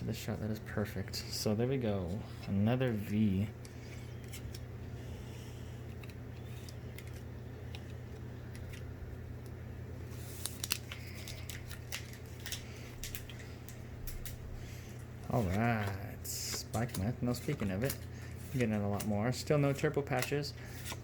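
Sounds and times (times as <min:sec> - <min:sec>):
trading cards rustling: 0:00.1 - 0:21.0.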